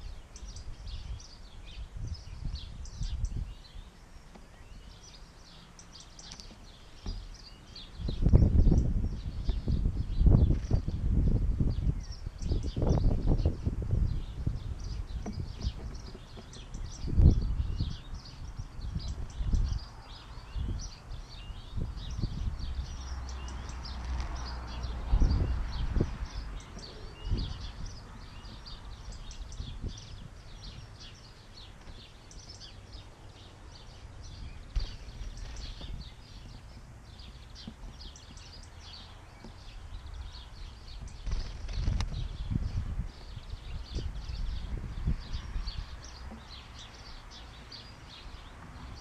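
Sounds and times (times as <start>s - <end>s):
birds chirping: 0.0s - 49.0s
wind buffeting microphone: 0.0s - 49.0s.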